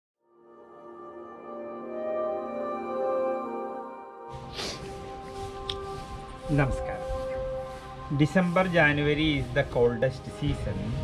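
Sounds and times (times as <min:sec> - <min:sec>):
ambient music of held tones: 0:00.4 - 0:11.0.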